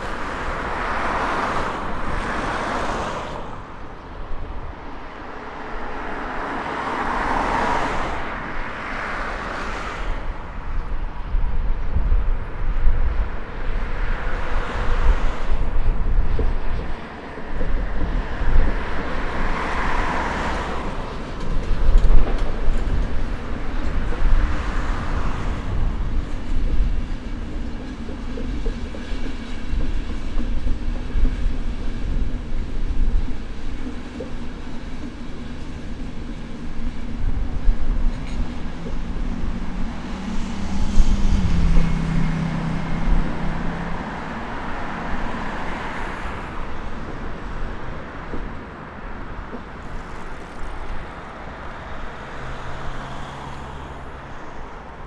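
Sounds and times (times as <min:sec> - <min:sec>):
clickety-clack of rails: 0:00.0 - 0:55.0
train wheels rumbling on rails: 0:00.0 - 0:55.0.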